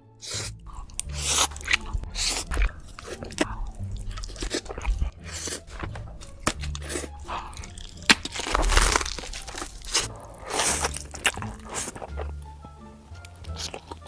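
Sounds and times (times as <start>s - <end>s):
chewing: 0.0s - 14.0s
crunchy bites: 0.0s - 14.0s
mouth clicks: 0.0s - 14.0s
noodles slurped: 0.2s - 14.0s.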